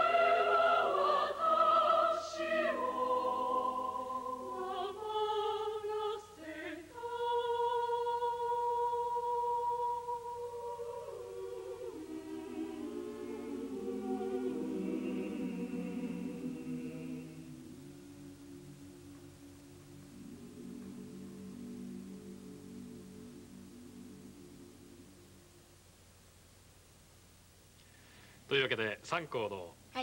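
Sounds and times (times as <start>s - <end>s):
choir singing a cappella: 0.0s - 25.5s.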